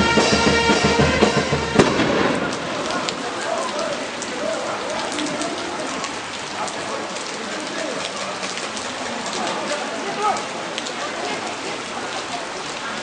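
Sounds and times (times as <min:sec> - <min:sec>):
rain on hard surfaces: 0:00.0 - 0:13.0
faint voices: 0:01.8 - 0:13.0.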